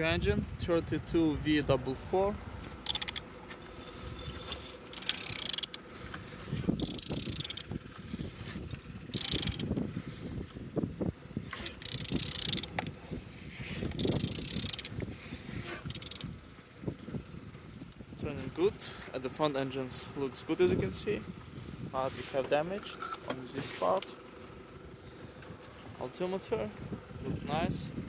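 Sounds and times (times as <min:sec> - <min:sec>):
engine parts clicking and knocking: 0:00.0 - 0:28.0.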